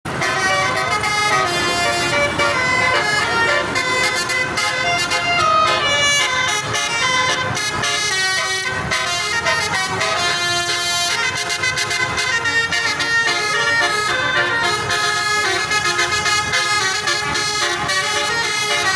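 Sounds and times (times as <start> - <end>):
bus horn playing a tune: 0.1 - 18.9.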